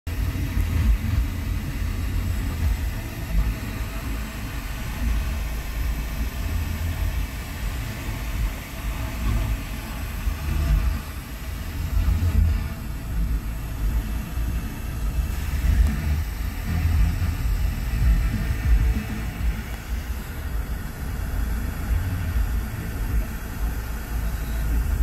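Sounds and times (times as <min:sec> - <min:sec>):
car engine rumble from inside cabin: 0:00.1 - 0:25.0.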